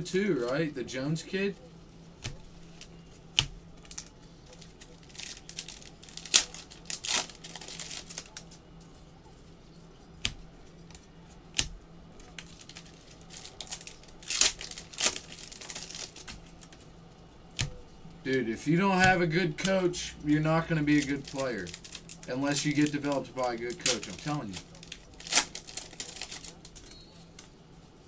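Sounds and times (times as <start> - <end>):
cards rustling and crinkling: 1.8 - 27.6.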